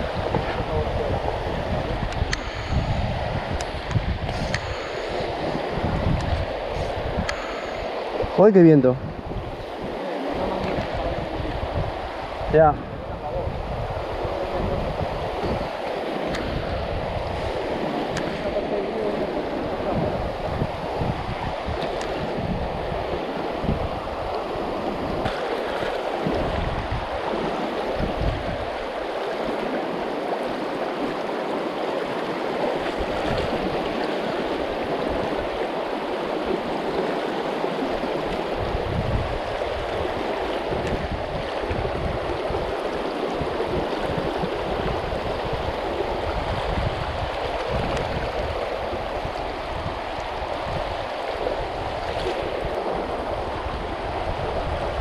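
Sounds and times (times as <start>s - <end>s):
river running over stones: 0.0s - 55.0s
wind buffeting microphone: 0.0s - 55.0s.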